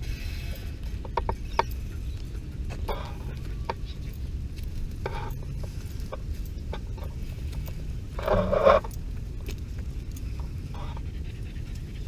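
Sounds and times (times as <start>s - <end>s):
low rumble: 0.0s - 12.0s
light clicks and rustling: 0.8s - 12.0s.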